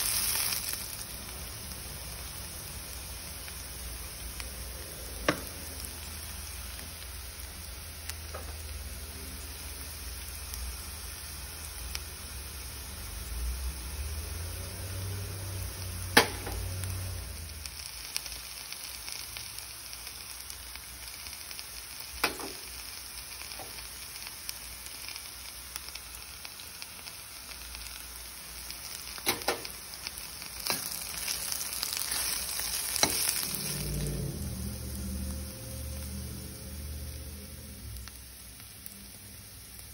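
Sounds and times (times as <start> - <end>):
onions sizzling in oil: 0.0 - 39.9.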